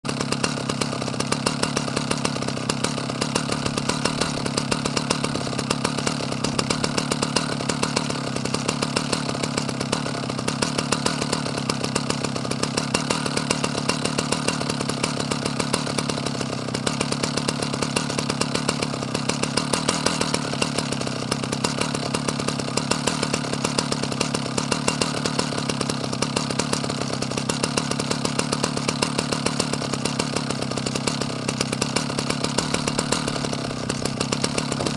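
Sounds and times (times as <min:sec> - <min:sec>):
chainsaw engine running: 0:00.0 - 0:34.9.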